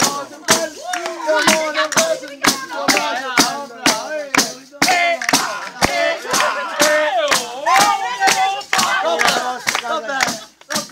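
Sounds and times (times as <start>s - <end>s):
frame drum beating steadily: 0.0s - 10.9s.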